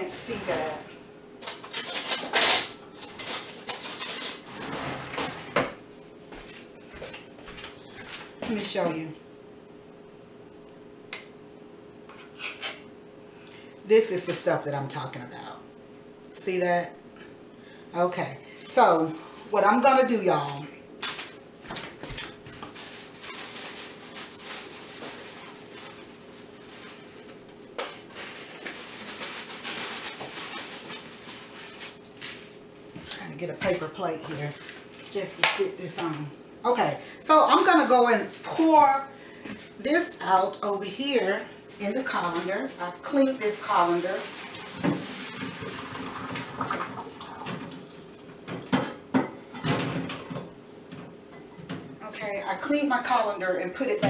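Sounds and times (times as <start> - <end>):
steady low hum: 0.0 - 45.4.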